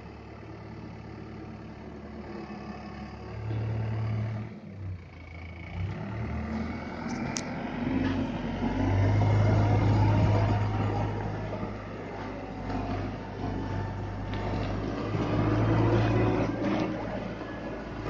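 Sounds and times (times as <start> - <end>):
diesel engine driving past: 0.0 - 18.0.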